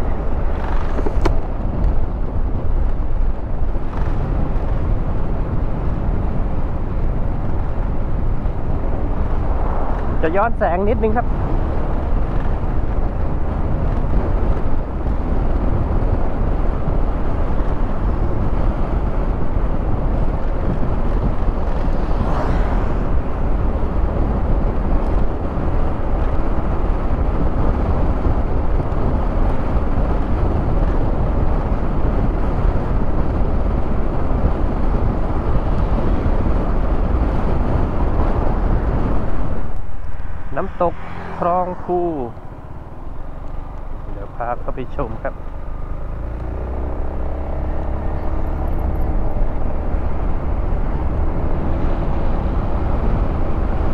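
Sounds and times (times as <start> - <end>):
wind rush on microphone: 0.0 - 53.9.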